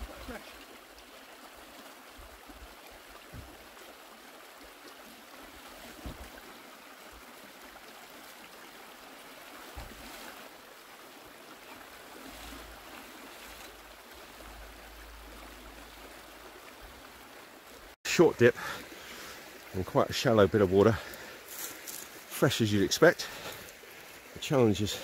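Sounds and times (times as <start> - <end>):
river running over stones: 0.0 - 25.0.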